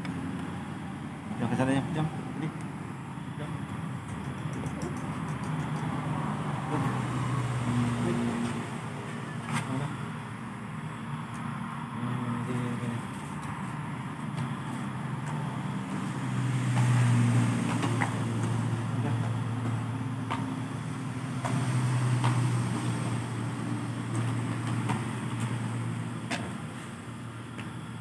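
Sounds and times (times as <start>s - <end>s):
highway traffic drone: 0.0s - 28.0s.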